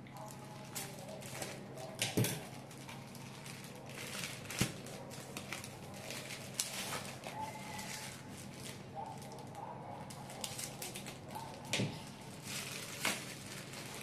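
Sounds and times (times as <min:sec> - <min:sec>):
plastic bag rustling and crinkling: 0:00.1 - 0:14.0.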